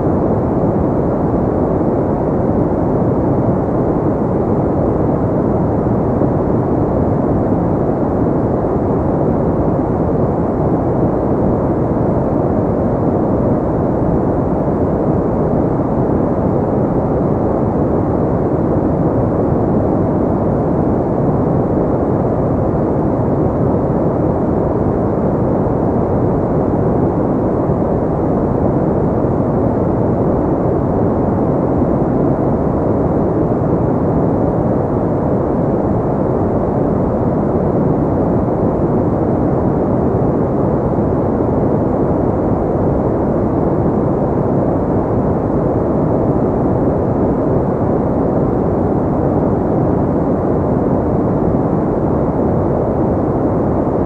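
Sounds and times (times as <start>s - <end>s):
deep muffled pink noise: 0.0s - 54.0s.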